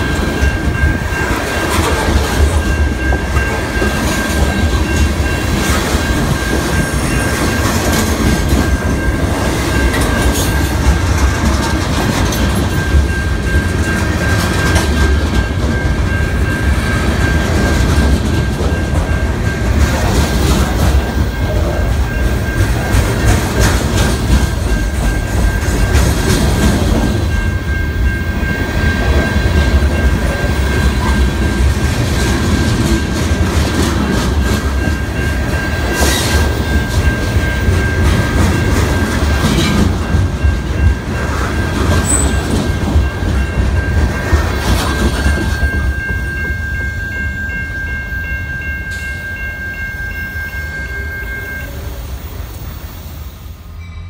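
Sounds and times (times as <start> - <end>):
wheels clacking over rail joints: 0.0 - 27.8, 29.0 - 46.8
freight train rumbling past: 0.0 - 54.0
steady high-pitched tone: 0.0 - 54.0.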